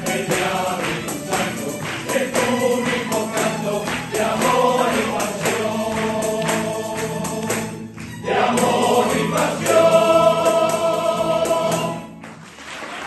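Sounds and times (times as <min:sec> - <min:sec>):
steady percussion beat: 0:00.0 - 0:12.1
choir singing: 0:00.0 - 0:12.2.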